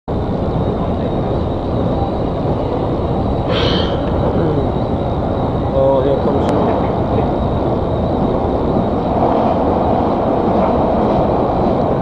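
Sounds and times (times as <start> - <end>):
train wheels rumbling on rail: 0.1 - 12.0.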